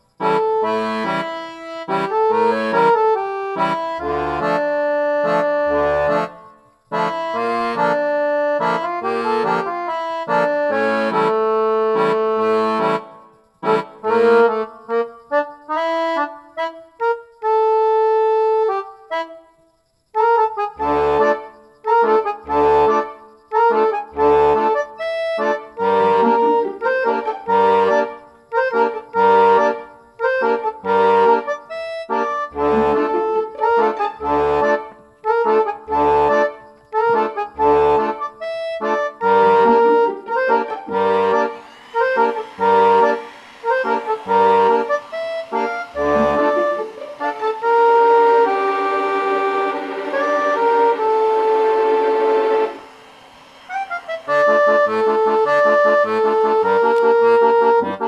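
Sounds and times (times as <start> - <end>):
instrumental music with low beat: 0.0 - 58.0.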